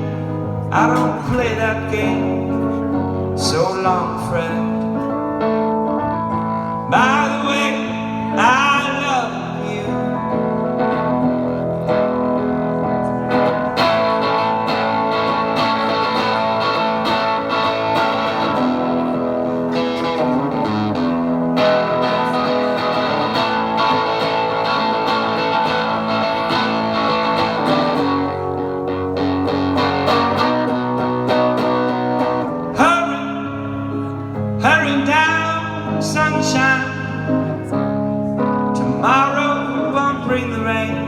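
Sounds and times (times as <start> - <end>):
distorted electric guitar: 0.0 - 41.0
live rock band playing: 0.0 - 41.0.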